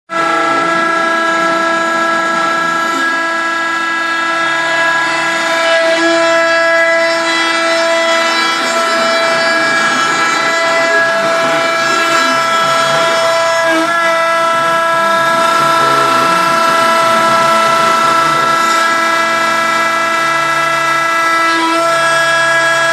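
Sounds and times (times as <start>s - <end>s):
router spindle whine: 0.1s - 22.9s.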